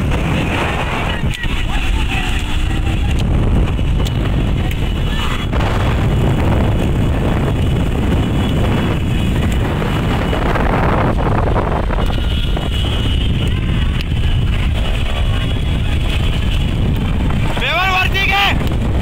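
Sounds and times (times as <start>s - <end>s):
vehicle engine rumble: 0.0s - 19.0s
wind buffeting microphone: 0.0s - 19.0s.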